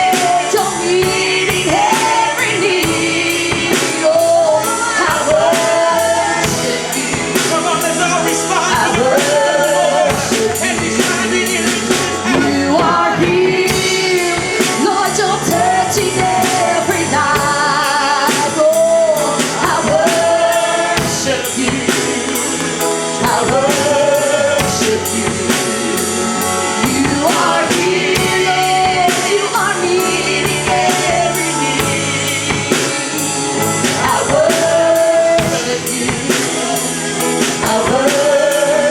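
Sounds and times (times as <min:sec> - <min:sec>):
band with drum kit: 0:00.0 - 0:38.9
singers with vibrato: 0:00.0 - 0:38.9.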